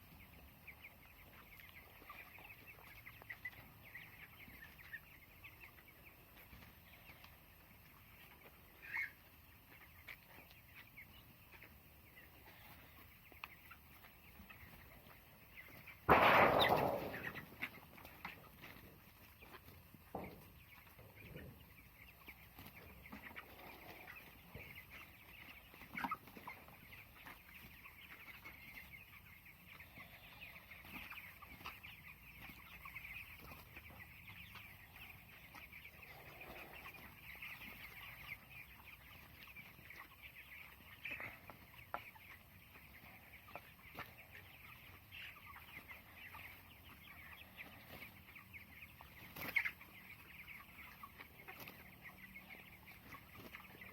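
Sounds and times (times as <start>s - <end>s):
chicks peeping and chirping: 0.0s - 53.9s.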